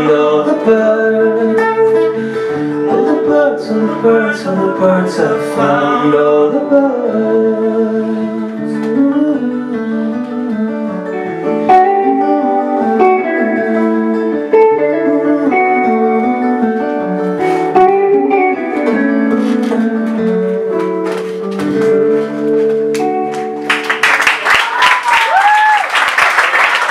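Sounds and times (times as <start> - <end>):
guitar playing chords: 0.0 - 24.2.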